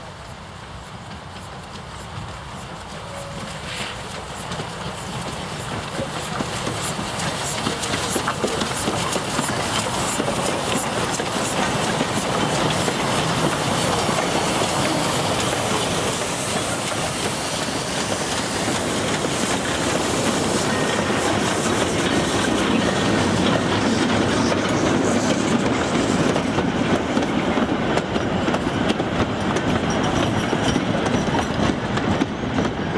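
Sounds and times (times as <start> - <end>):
steam train passing: 0.0 - 32.9
train wheels on rails: 0.0 - 32.9.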